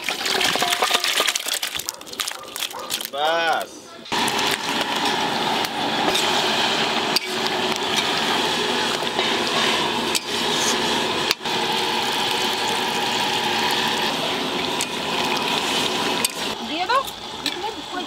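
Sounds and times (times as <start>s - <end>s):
curry sizzling and bubbling: 0.0s - 18.0s.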